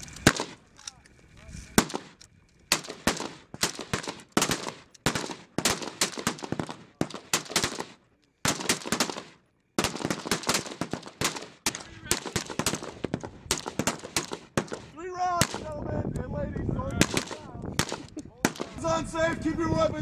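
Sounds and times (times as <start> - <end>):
rifle shots echoing: 0.2 - 0.8, 1.8 - 15.8, 17.0 - 18.8.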